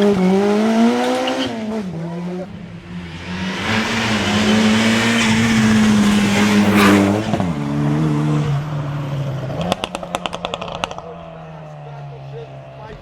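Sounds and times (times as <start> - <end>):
rally car engine revving high: 0.0 - 11.6.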